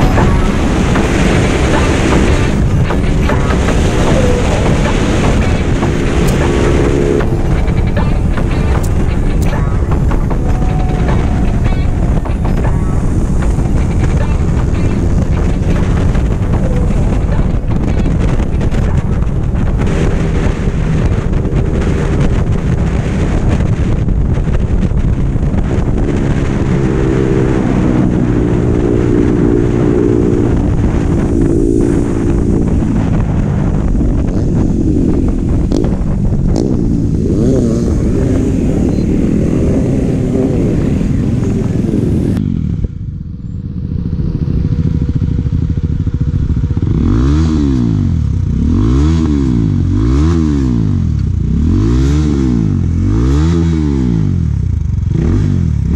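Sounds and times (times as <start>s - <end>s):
motorcycle engine revving: 0.0s - 55.9s
motorcycle engine running: 0.0s - 55.9s
wind noise on microphone: 0.0s - 55.9s.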